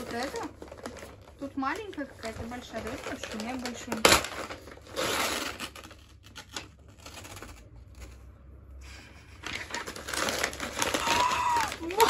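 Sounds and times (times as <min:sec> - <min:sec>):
paper crinkling: 0:00.0 - 0:08.2, 0:09.4 - 0:12.0
wrapping paper tearing: 0:00.0 - 0:08.3, 0:09.4 - 0:12.0.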